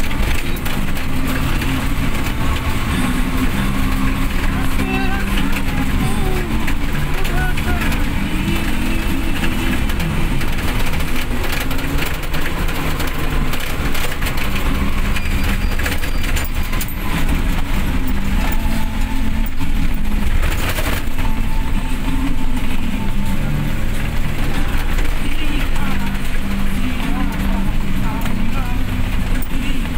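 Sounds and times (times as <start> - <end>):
car engine and tyres rumbling: 0.0 - 29.9
raindrops hitting car: 0.0 - 29.9.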